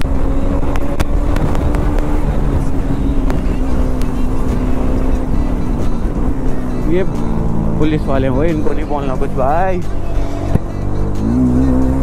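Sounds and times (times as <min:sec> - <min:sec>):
wind rushing over microphone: 0:00.0 - 0:10.7
motorcycle engine running: 0:00.0 - 0:12.0.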